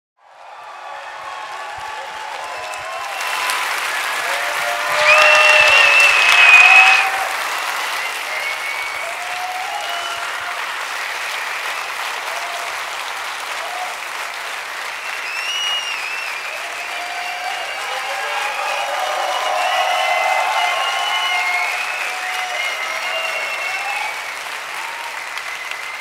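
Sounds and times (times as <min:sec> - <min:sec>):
audience applauding and cheering: 0:00.2 - 0:26.0.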